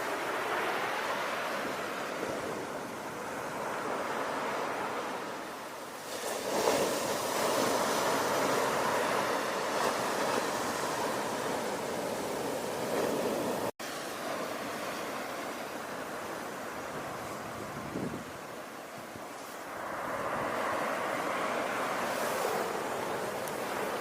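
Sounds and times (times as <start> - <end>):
ocean waves on shore: 0.0 - 24.0.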